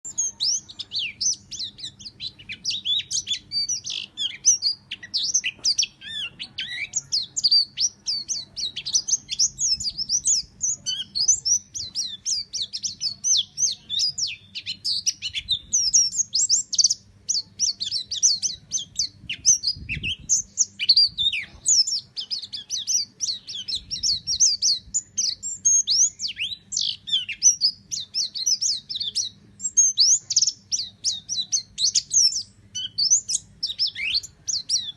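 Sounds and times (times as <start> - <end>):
bird singing rapid chirps and trills: 0.0 - 34.9.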